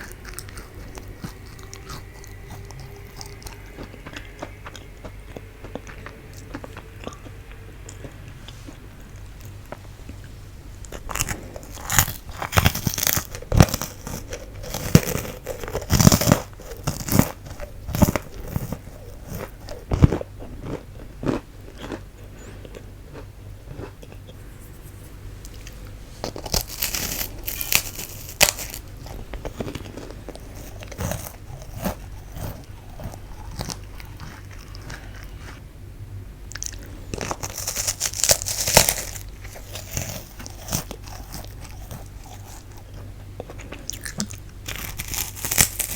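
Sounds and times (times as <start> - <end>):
crisp crunching of snack: 0.0 - 9.8, 10.8 - 24.4, 25.4 - 35.6, 36.5 - 45.9
chewing: 0.0 - 24.5, 25.4 - 35.6, 36.5 - 45.9.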